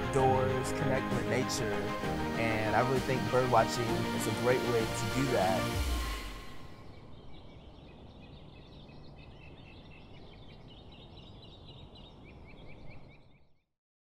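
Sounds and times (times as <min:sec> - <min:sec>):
small birds chirping: 0:00.2 - 0:13.7.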